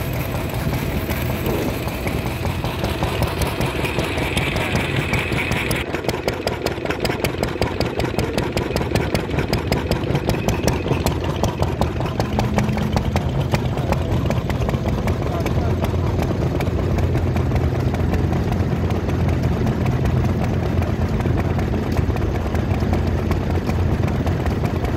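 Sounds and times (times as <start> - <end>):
stationary engine running: 0.0 - 24.9.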